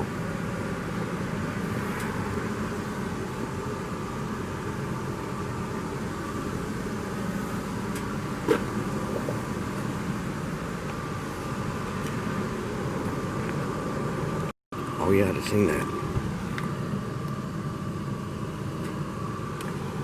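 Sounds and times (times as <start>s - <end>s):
air conditioning blowing: 0.0s - 20.0s
truck engine humming: 0.0s - 20.0s.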